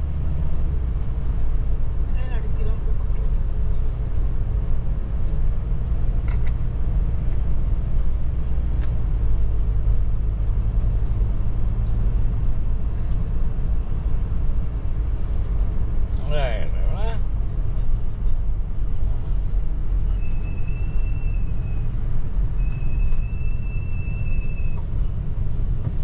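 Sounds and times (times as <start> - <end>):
engine and road rumble: 0.0 - 26.0.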